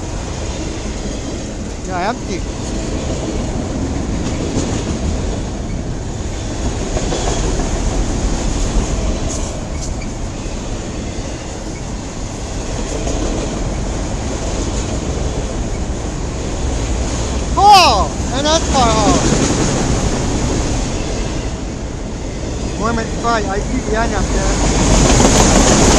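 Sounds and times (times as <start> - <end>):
train wheels rolling on rails: 0.0 - 25.9.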